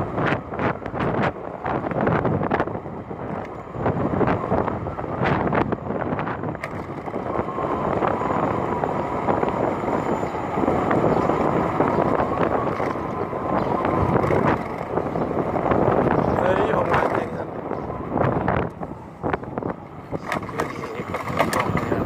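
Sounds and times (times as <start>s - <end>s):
wind noise on microphone: 0.0s - 22.0s
vehicle engine running: 1.7s - 22.0s.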